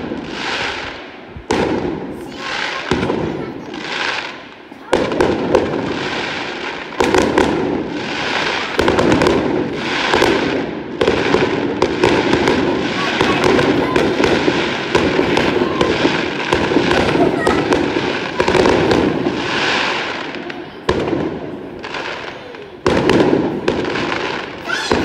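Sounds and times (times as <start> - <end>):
fireworks crackling and popping: 0.0 - 25.0.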